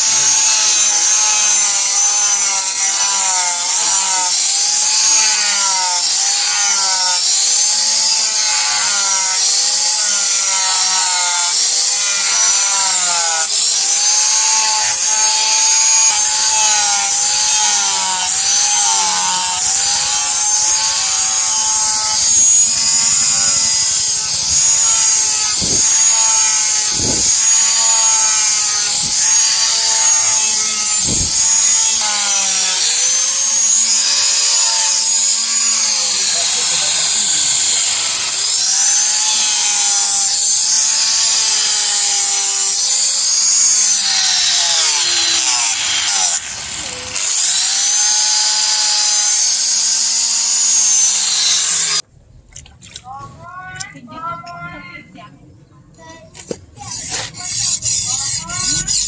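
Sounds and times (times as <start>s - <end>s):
power grinder on steel blade: 0.0s - 52.0s, 56.4s - 59.0s.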